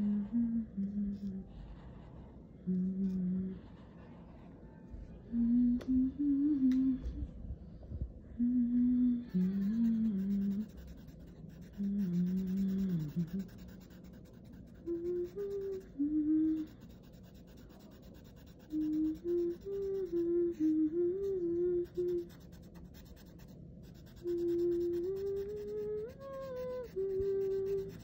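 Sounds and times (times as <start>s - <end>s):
person humming: 0.0s - 1.8s, 2.6s - 3.8s, 5.3s - 7.3s, 8.3s - 13.8s, 14.5s - 23.3s, 24.0s - 28.0s.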